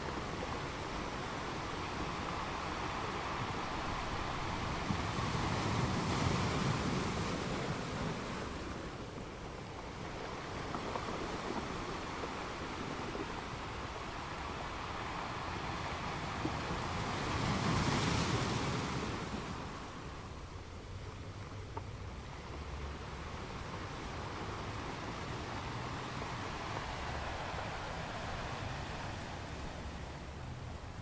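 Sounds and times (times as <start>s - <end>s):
small waves breaking on beach: 0.0s - 31.0s.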